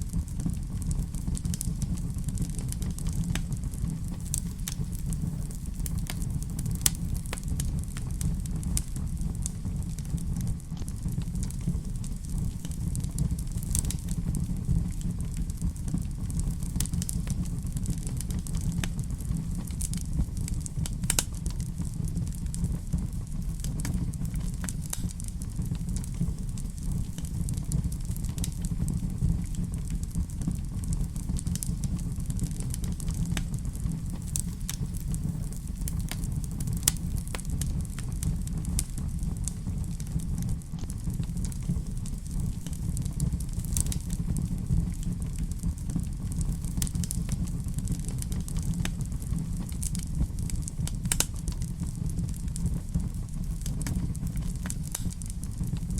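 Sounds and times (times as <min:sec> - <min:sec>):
fire crackling in a fireplace: 0:00.0 - 0:55.9.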